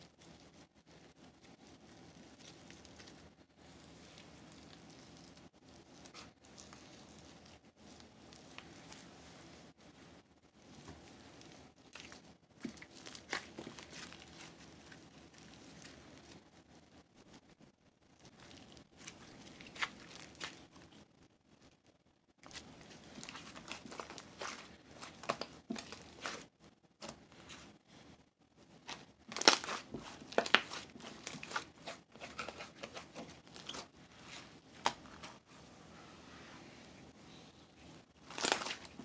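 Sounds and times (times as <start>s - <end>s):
crinkling and crackling: 0.0s - 35.6s, 37.8s - 39.0s.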